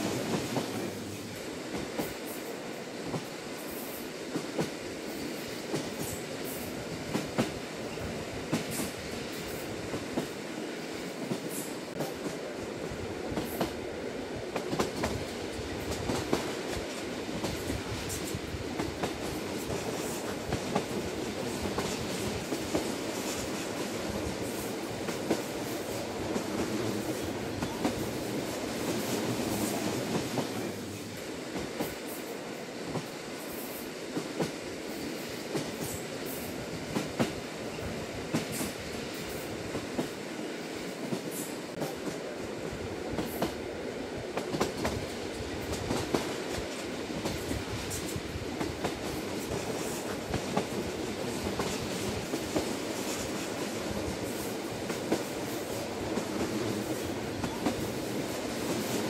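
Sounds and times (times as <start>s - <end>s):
train wheels rumbling on track: 0.0s - 59.0s
rail clicks and knocks: 4.3s - 4.8s, 5.6s - 10.4s, 11.1s - 13.8s, 14.4s - 30.8s, 35.2s - 43.6s, 44.2s - 59.0s.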